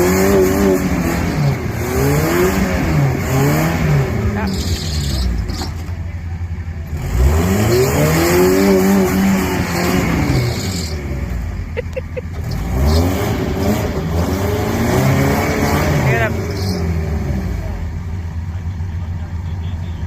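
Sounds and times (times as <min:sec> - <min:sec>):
engine revving: 0:00.0 - 0:05.9, 0:06.8 - 0:18.3.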